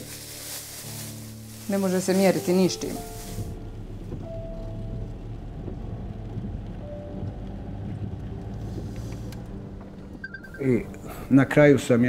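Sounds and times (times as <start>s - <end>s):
van driving on wet road: 0.0s - 10.2s
soft background music: 0.0s - 12.0s.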